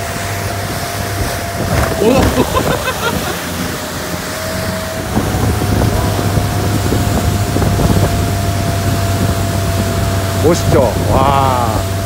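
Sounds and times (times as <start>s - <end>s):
boat engine running: 0.0s - 12.0s
water rushing: 0.0s - 12.0s
wind buffeting microphone: 0.0s - 12.0s.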